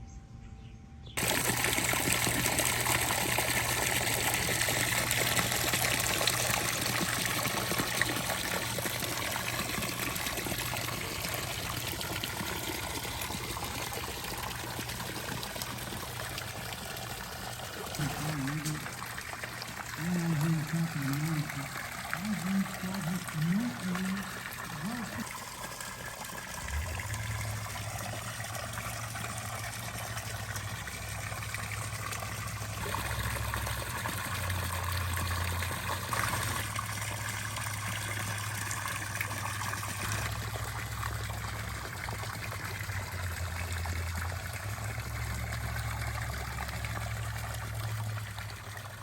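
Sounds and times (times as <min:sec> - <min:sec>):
water trickling and splashing: 0:01.2 - 0:49.0.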